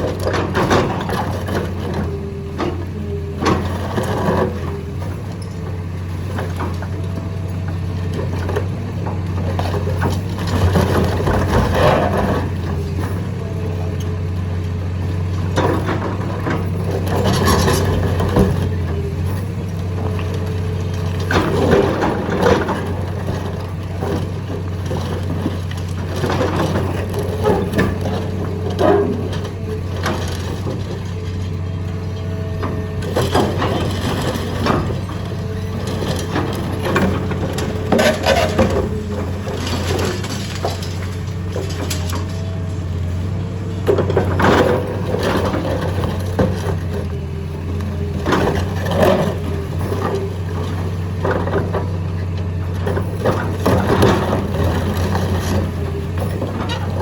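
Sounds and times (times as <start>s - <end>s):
concrete cracking and grinding: 0.0s - 57.0s
excavator diesel engine: 0.0s - 57.0s.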